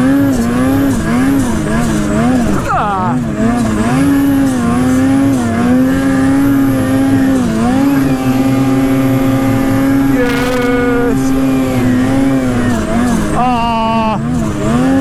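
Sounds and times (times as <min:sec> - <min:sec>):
snowmobile engine at high revs: 0:00.0 - 0:15.0.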